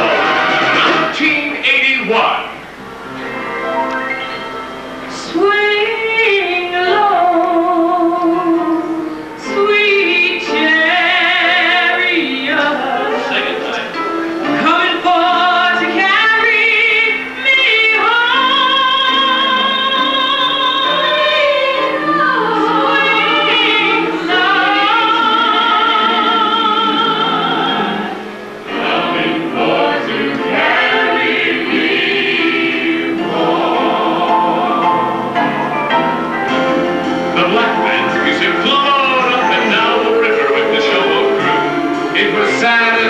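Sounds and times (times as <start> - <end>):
musical accompaniment: 0.0 - 43.0
voices singing with vibrato: 0.0 - 43.0.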